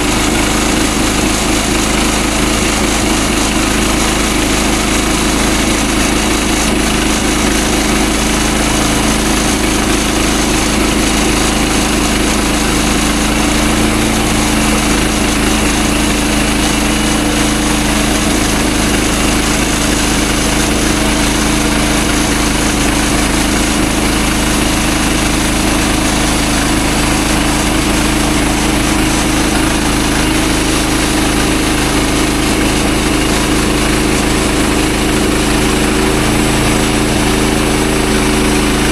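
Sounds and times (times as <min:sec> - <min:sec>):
gasoline engine running under load: 0:00.0 - 0:38.9
saw blade cutting log: 0:00.0 - 0:38.9.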